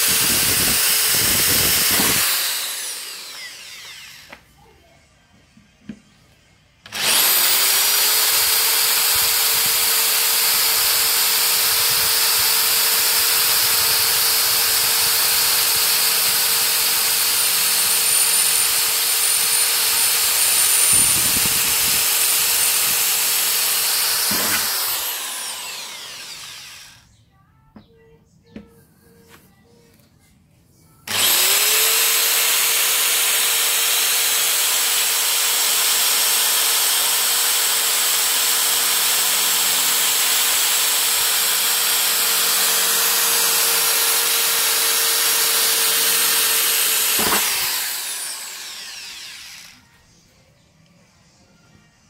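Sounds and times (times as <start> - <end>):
electric drill whining through steel: 0.0 - 4.5, 6.8 - 27.1, 31.1 - 50.1.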